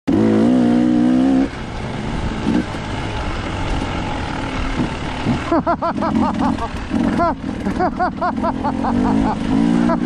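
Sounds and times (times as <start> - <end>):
dirt bike engine running: 0.1 - 10.0
rough rumbling noise: 0.2 - 10.0.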